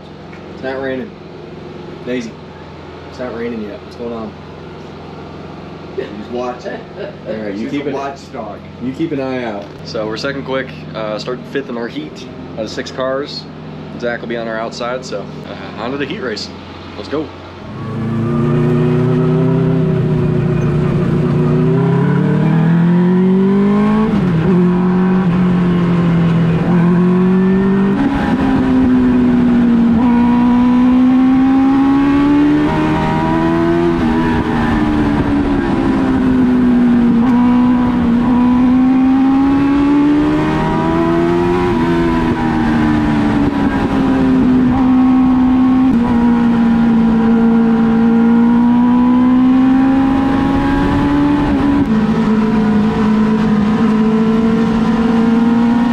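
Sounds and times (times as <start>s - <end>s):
race car engine: 0.0s - 55.9s.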